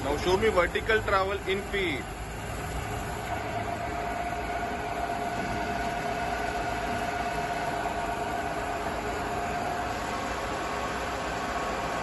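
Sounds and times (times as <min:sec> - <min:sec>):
milling machine feed hum: 0:00.0 - 0:12.0
steady machine whine: 0:00.0 - 0:12.0.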